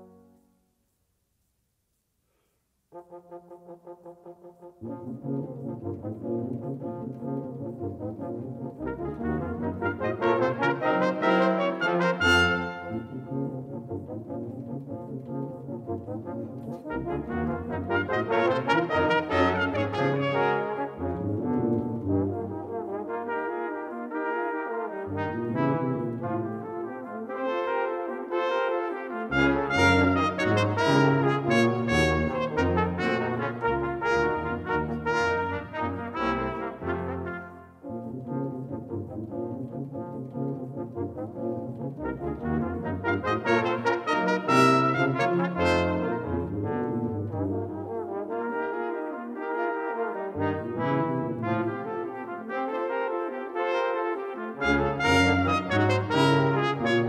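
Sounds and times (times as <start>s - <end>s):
tuba low line: 2.8s - 57.0s
brass quintet playing: 2.9s - 57.0s.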